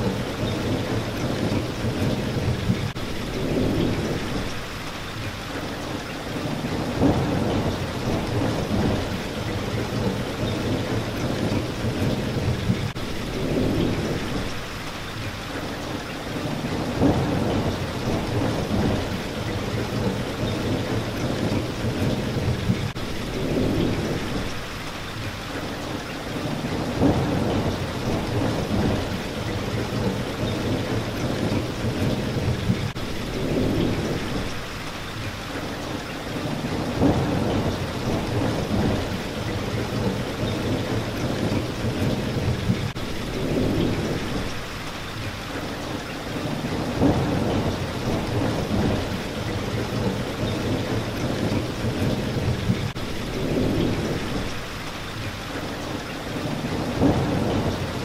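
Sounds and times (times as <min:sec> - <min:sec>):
low thunder rumbling: 0:00.0 - 0:04.8, 0:06.4 - 0:14.7, 0:16.4 - 0:24.7, 0:26.4 - 0:34.8, 0:36.4 - 0:44.8, 0:46.4 - 0:54.8, 0:56.4 - 0:58.0
steady rain: 0:00.0 - 0:58.0.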